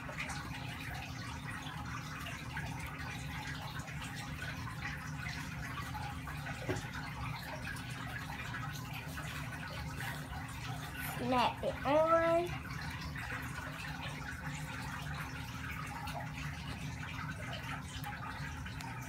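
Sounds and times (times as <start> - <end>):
low room hum and hiss: 0.0 - 19.0.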